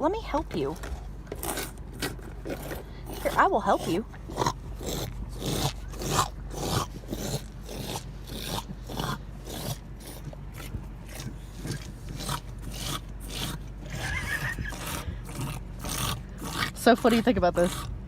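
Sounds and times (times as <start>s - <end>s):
animal lapping water: 1.4s - 18.0s.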